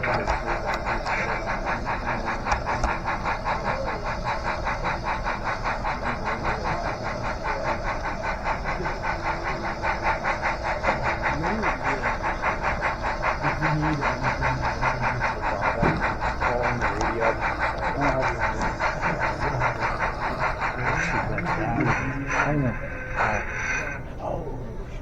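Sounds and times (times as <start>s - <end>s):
faint crowd voices: 0.0s - 25.0s
model steam locomotive chuffing: 0.0s - 25.0s.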